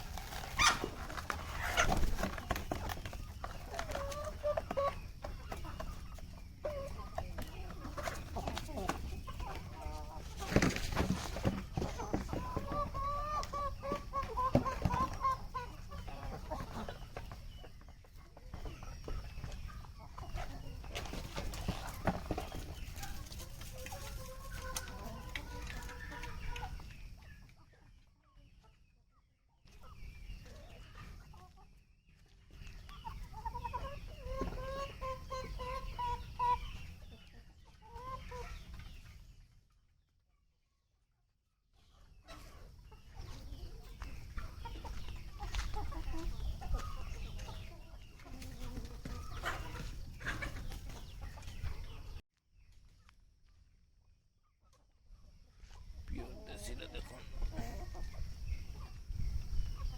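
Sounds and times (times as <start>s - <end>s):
chickens clucking and warbling: 0.0s - 59.9s.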